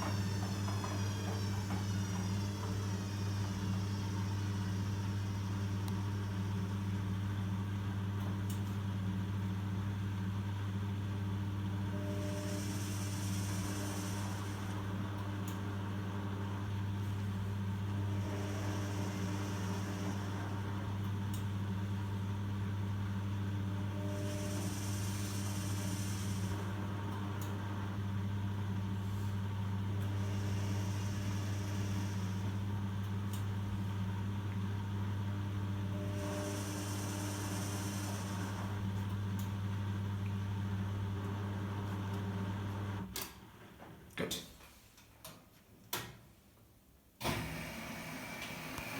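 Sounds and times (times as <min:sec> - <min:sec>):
washing machine motor hum: 0:00.0 - 0:43.2, 0:47.2 - 0:48.9.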